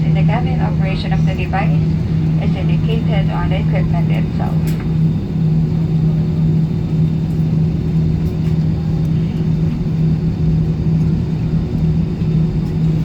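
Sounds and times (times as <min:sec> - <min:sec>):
jet engines humming at low power: 0:00.0 - 0:13.0.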